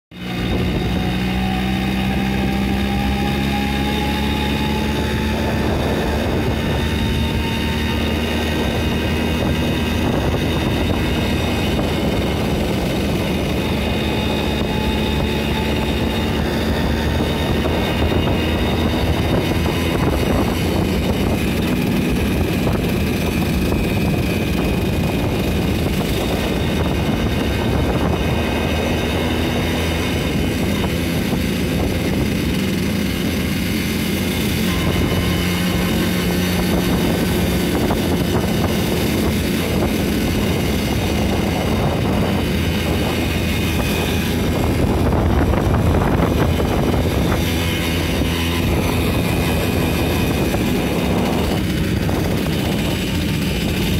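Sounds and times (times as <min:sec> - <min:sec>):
moped engine running: 0:00.1 - 0:53.9
wind and road noise: 0:00.1 - 0:53.9.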